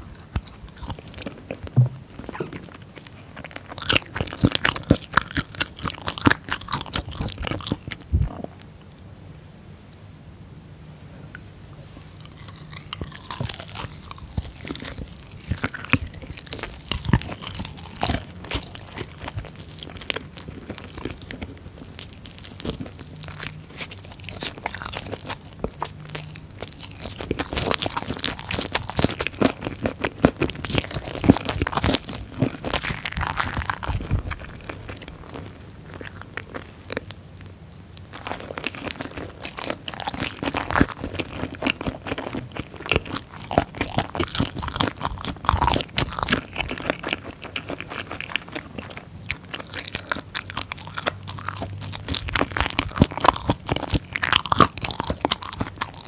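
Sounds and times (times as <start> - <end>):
biting and chewing: 0.0 - 8.7, 12.2 - 56.0.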